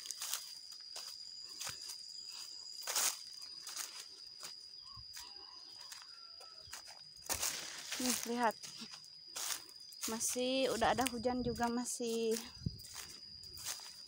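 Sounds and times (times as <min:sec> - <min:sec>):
footsteps crunching dry leaves: 0:00.0 - 0:14.0
insect trilling: 0:00.0 - 0:14.0.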